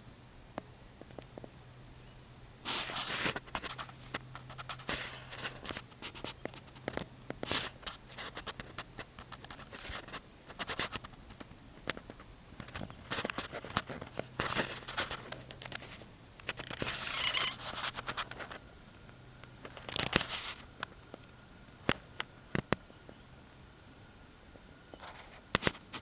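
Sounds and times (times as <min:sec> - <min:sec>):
faint low hum: 0:00.0 - 0:26.0
close rustling and scraping: 0:02.6 - 0:22.9, 0:24.9 - 0:26.0.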